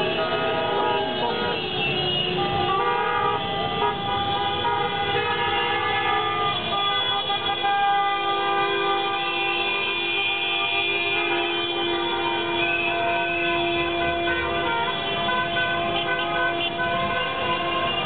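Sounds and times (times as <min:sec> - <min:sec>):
car and scooter horns honking: 0:00.0 - 0:18.0.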